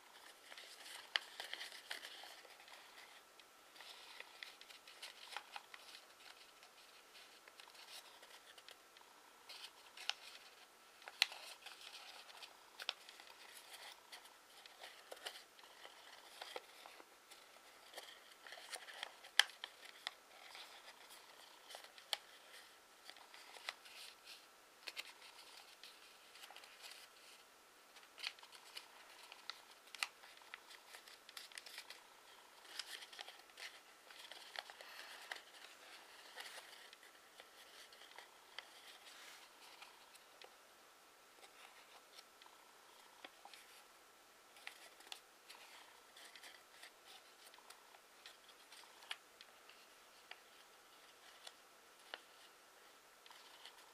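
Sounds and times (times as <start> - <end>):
paper rustling: 0.0 - 8.8, 9.5 - 27.4, 28.0 - 40.6, 44.5 - 52.5, 53.2 - 53.9
paper crackling as creased: 0.0 - 27.4, 28.0 - 40.5, 44.6 - 52.5, 53.2 - 53.9.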